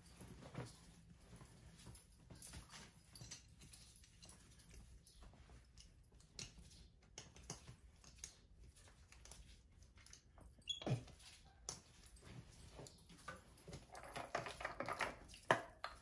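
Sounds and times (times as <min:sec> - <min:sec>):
faint clicks and rustles of clothing: 0:00.0 - 0:16.0.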